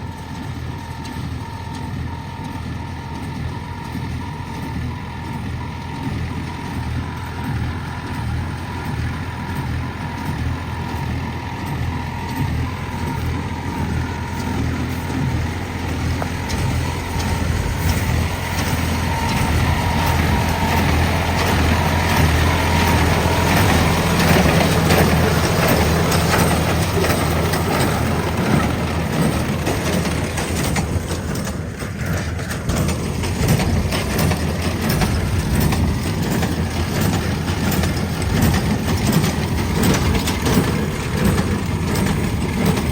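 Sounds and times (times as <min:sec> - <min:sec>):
baler working noise: 0:00.0 - 0:42.9
tractor engine running: 0:00.0 - 0:42.9.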